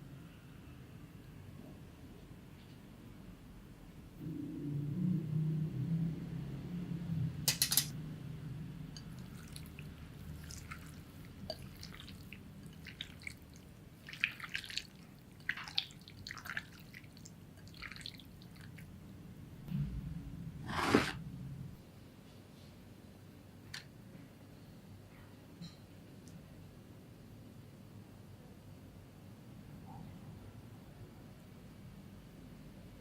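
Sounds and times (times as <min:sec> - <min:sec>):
low steady hum: 0:00.0 - 0:29.7.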